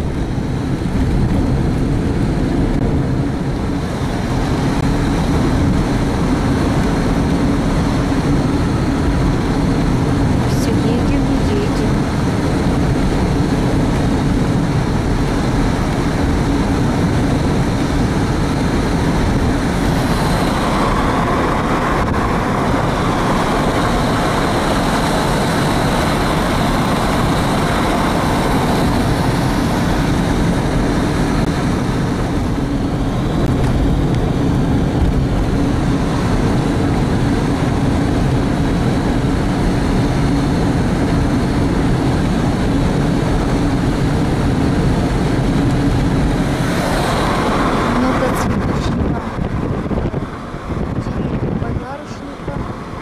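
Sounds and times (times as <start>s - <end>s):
car engine and tyre noise: 0.0s - 53.0s.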